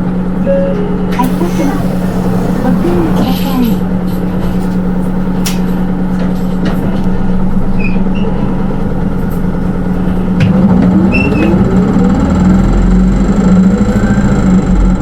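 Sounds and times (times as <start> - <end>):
bus engine accelerating: 0.0 - 15.0.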